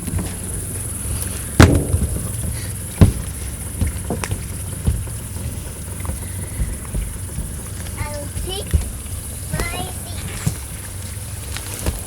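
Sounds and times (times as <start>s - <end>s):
hollow knocks on boat deck: 0.0s - 12.0s
low steady hum: 0.0s - 12.0s.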